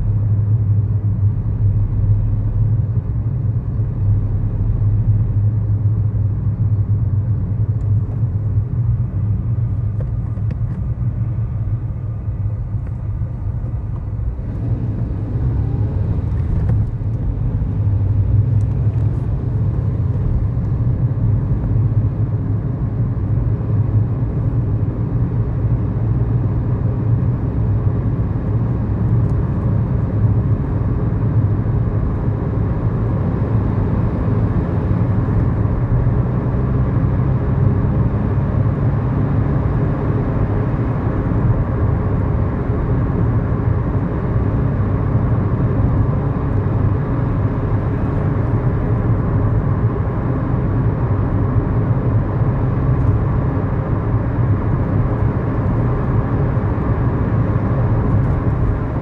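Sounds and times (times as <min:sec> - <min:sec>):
low engine drone: 0:00.0 - 0:59.0
road noise: 0:00.0 - 0:59.0.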